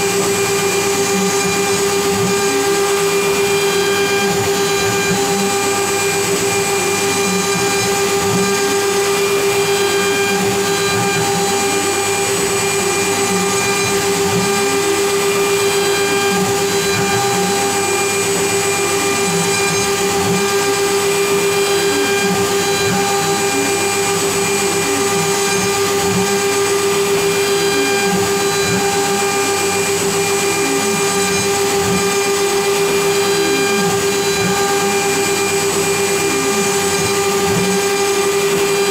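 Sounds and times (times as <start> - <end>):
router motor whining: 0.0 - 38.9.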